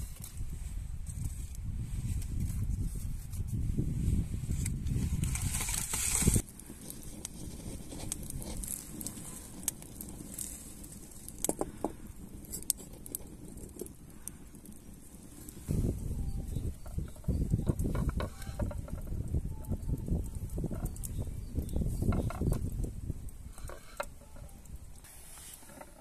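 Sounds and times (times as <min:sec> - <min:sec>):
wood fire crackling and popping: 0:04.5 - 0:26.0.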